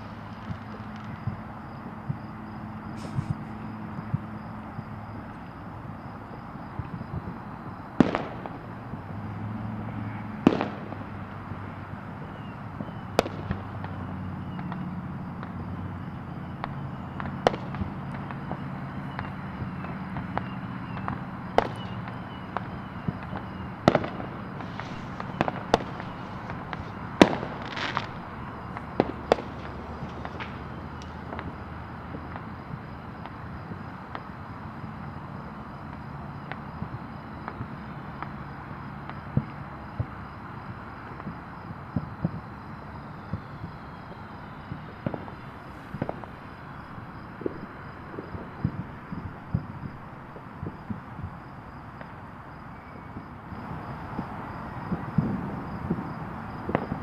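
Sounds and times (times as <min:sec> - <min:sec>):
distant fireworks bangs: 0:00.0 - 0:57.0
traffic hum: 0:00.0 - 0:57.0.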